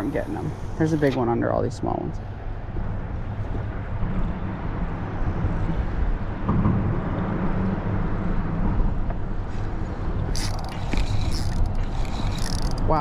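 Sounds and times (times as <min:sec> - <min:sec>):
motor traffic rumbling: 0:00.0 - 0:13.0.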